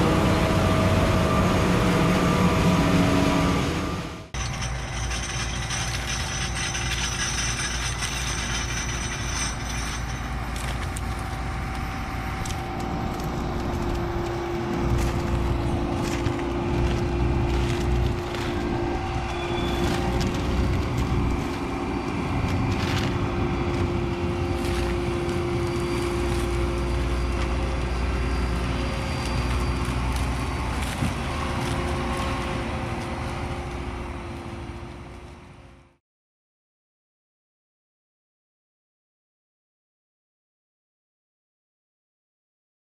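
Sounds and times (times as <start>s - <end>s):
combine harvester rumbling: 0.0s - 35.9s
tractor running: 0.0s - 36.0s.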